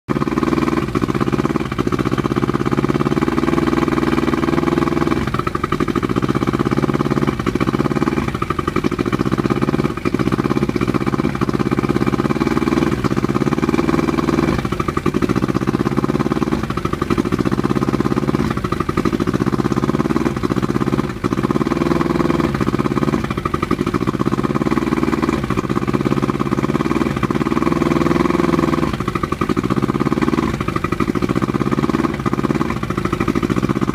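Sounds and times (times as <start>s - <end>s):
outboard motor idling unevenly: 0.1s - 33.9s.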